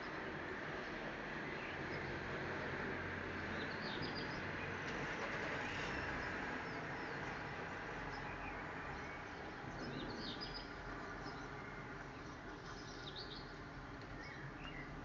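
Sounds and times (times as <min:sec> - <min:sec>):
low outdoor background hum: 0:00.0 - 0:15.0.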